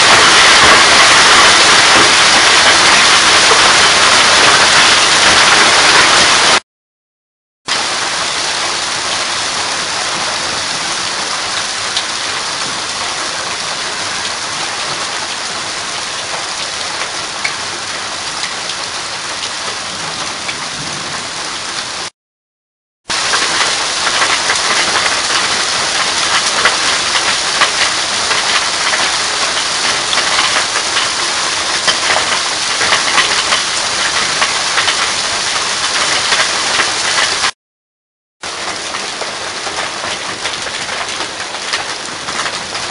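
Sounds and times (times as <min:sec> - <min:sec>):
hail and rain hissing: 0:00.0 - 0:06.6, 0:07.7 - 0:22.1, 0:23.1 - 0:37.6, 0:38.4 - 0:42.9
hailstones ticking on ground: 0:00.0 - 0:06.6, 0:07.7 - 0:21.2, 0:23.1 - 0:37.5, 0:38.5 - 0:42.9.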